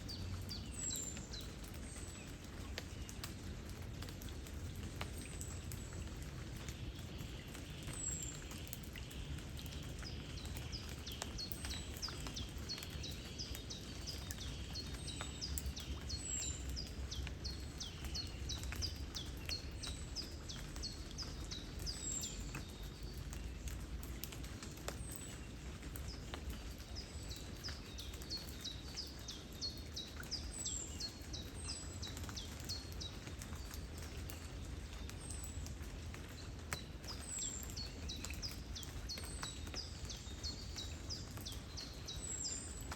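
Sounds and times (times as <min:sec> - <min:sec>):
light rain pattering: 0:00.0 - 0:42.9
small birds chirping: 0:00.0 - 0:42.9
wind: 0:00.0 - 0:42.9.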